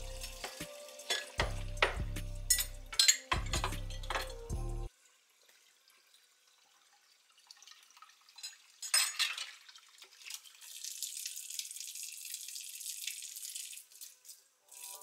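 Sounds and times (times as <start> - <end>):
faucet running into sink: 0.0 - 3.5, 4.9 - 15.0.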